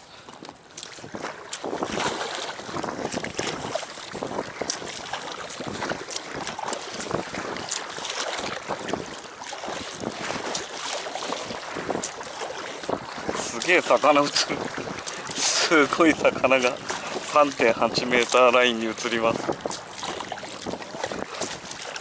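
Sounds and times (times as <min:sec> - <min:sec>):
wind noise: 0:00.4 - 0:22.0.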